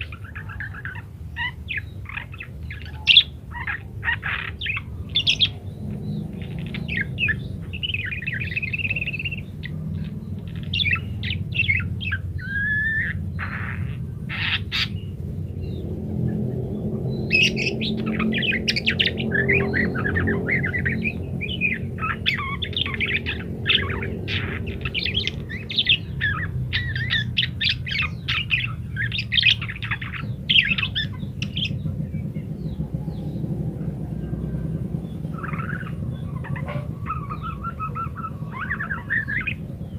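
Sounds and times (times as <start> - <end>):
budgerigars chattering and warbling: 0.0 - 39.9
steady low hum: 0.0 - 39.9.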